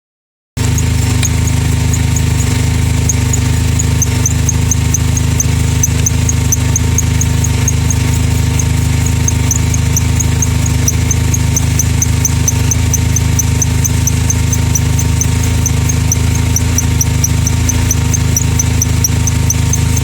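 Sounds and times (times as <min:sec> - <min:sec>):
compressor humming: 0:00.6 - 0:20.0.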